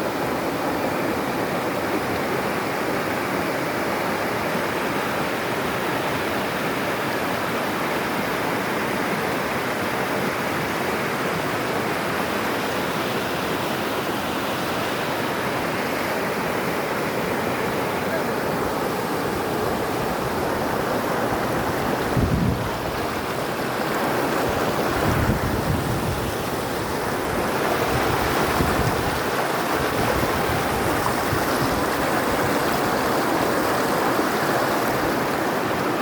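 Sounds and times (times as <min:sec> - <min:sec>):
river water rushing over rocks: 0:00.0 - 0:36.0.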